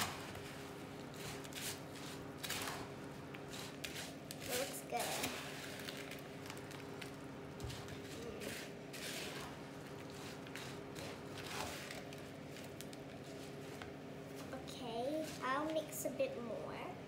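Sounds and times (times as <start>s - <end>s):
wooden spoon stirring sticky mix: 0.0s - 16.6s.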